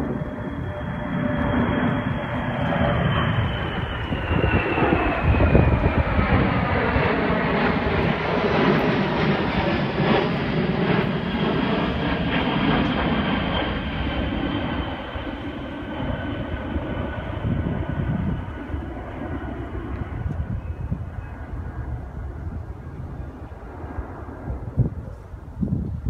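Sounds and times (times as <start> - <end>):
high jet engine whine: 0.0 - 26.0
jet roar passing overhead: 0.0 - 26.0.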